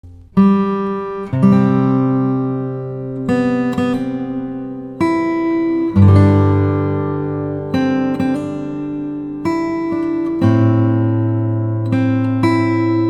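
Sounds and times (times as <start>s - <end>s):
acoustic guitar chords ringing: 0.0s - 13.0s.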